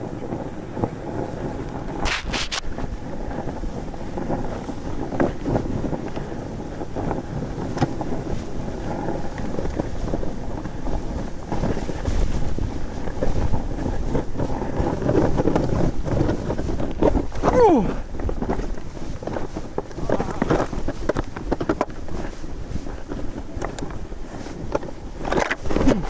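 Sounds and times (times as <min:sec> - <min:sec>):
sled skis hissing through snow: 0:00.0 - 0:26.0
wind buffeting microphone: 0:00.0 - 0:26.0.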